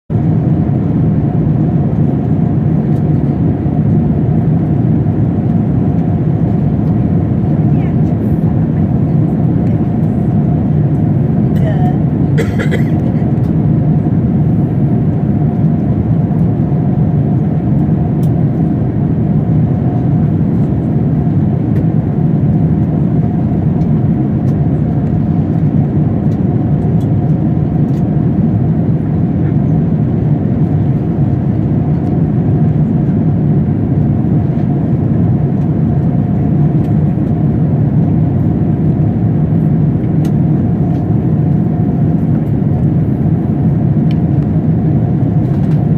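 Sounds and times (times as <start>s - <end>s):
airplane cabin roar: 0.1s - 45.9s.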